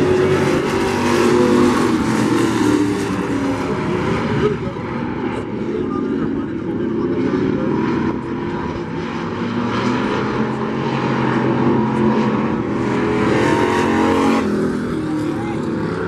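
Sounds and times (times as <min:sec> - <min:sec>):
racing truck engines: 0:00.0 - 0:16.0.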